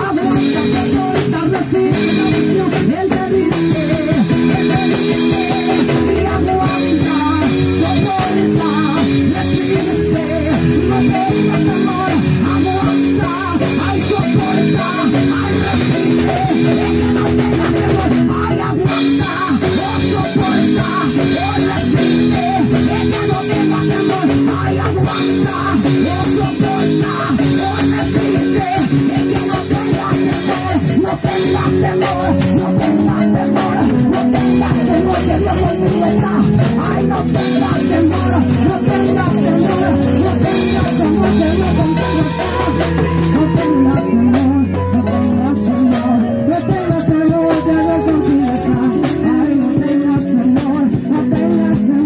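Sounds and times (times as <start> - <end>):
congas: 0.0 - 52.0
live band music: 0.0 - 52.0.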